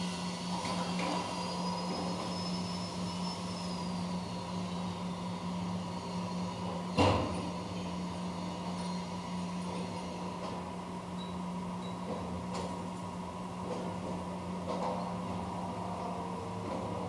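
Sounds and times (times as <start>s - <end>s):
machine hum and whine: 0.0s - 17.0s.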